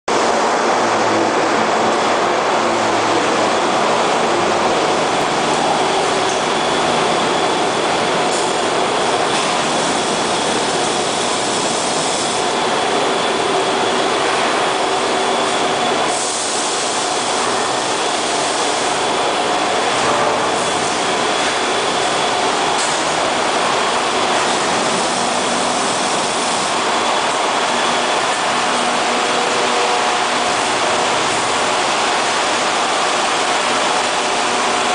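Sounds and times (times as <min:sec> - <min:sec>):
conveyor machinery rumble: 0:00.1 - 0:34.9.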